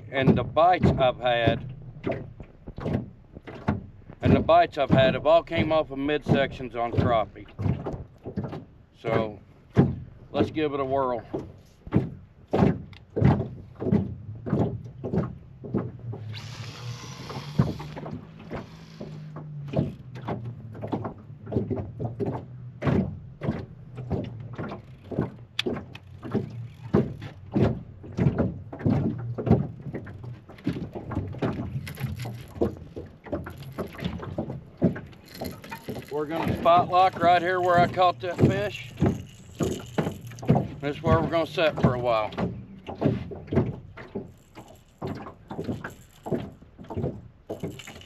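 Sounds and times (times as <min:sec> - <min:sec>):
steady low hum: 0:00.0 - 0:48.0
waves slapping boat hull: 0:00.0 - 0:48.0.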